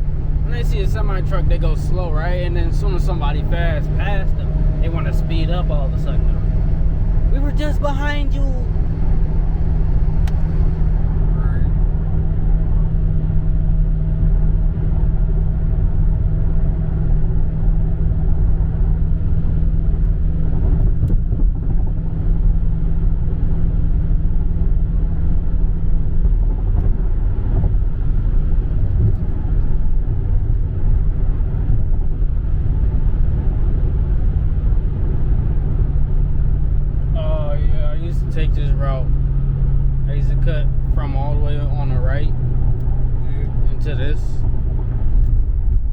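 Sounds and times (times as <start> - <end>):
car engine drone in cabin: 0.0 - 45.9
road noise: 0.0 - 45.9.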